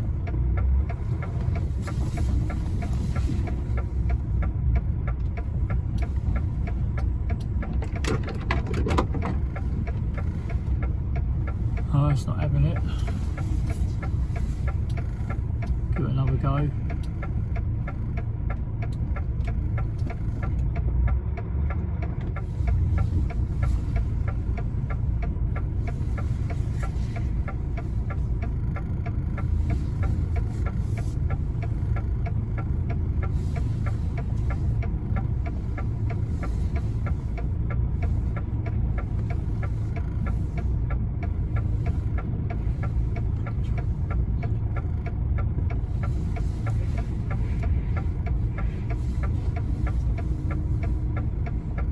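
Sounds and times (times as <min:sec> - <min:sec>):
diesel engine throbbing at low revs: 0:00.0 - 0:51.9
fast even ticking: 0:00.0 - 0:51.9.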